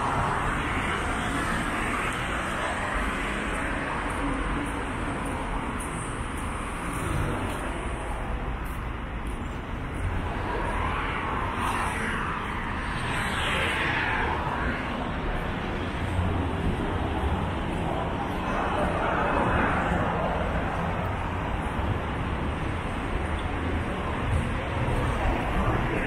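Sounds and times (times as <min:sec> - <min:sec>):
cars passing: 0:00.0 - 0:26.0
traffic hum: 0:00.0 - 0:26.0.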